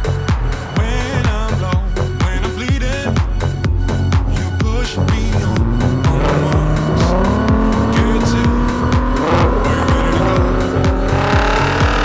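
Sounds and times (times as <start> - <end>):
background music with steady beat: 0.0 - 12.0
car engine accelerating: 0.0 - 12.0.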